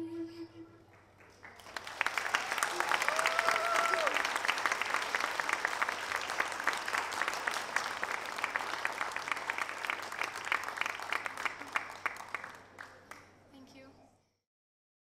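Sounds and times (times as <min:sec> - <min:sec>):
audience applauding: 0:00.9 - 0:13.2.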